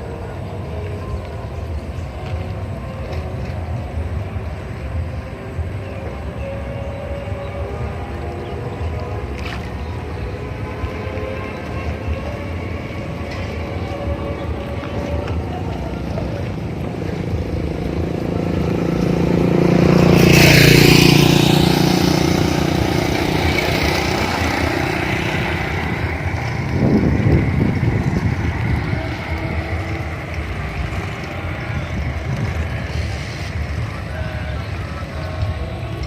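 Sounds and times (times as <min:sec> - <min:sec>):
vehicle passing by: 0:00.0 - 0:36.0.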